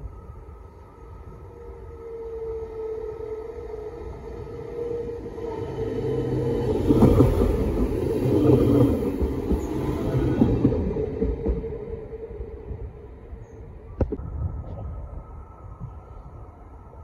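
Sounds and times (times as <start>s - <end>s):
train passing on rails: 0.0s - 17.0s.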